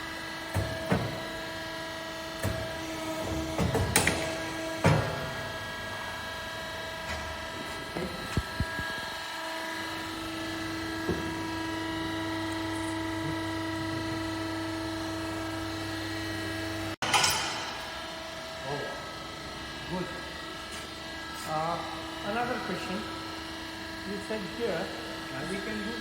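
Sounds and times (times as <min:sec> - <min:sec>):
machine motor hum: 0:00.0 - 0:26.0.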